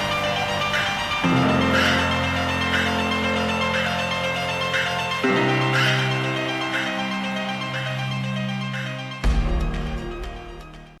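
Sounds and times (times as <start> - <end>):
synth chords: 0.0 - 11.0.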